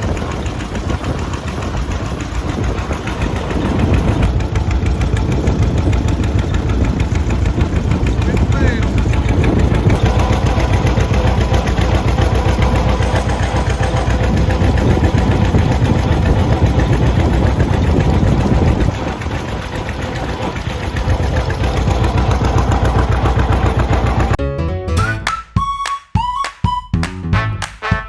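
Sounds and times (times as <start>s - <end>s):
engine idling: 0.0s - 24.4s.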